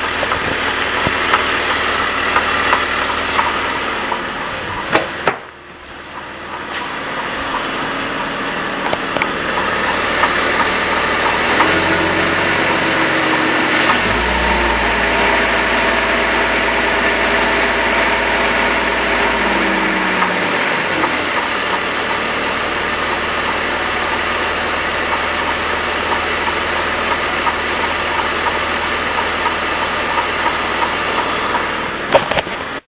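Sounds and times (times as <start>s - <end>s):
car engine idling: 0.0s - 32.8s
rhythmic galloping engine clank: 0.0s - 32.8s.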